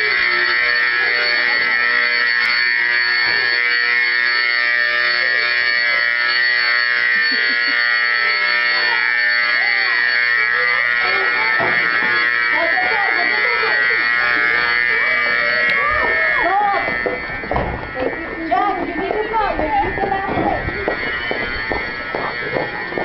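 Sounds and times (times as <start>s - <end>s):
faint children's voices: 0.0s - 23.0s
fire alarm buzzing: 0.0s - 23.0s.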